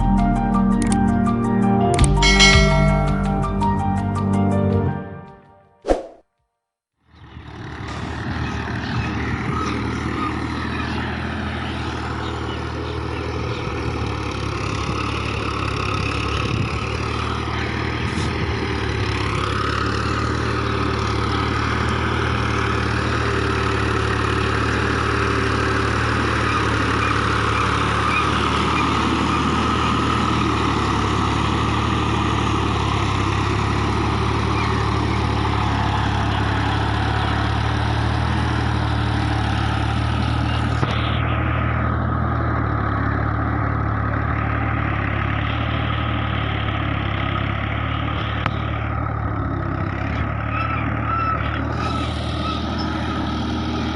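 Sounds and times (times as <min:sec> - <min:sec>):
tractor diesel engine running: 0:00.0 - 0:05.3, 0:07.0 - 0:53.9.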